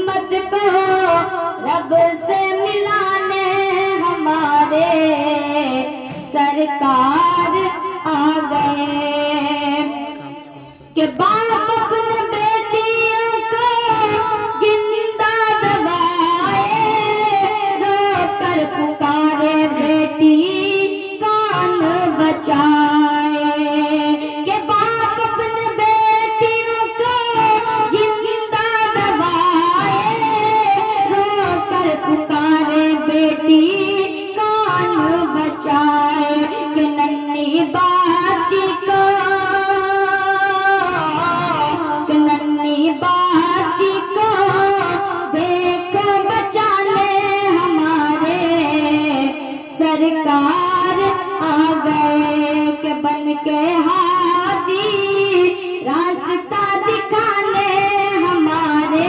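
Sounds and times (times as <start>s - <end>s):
boy singing into a microphone: 0.0s - 59.0s.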